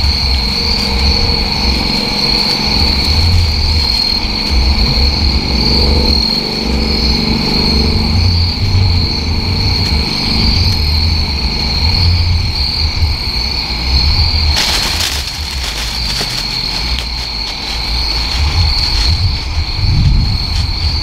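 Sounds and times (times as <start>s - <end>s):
insects trilling: 0.0s - 21.0s
low uneven rumble: 0.0s - 21.0s.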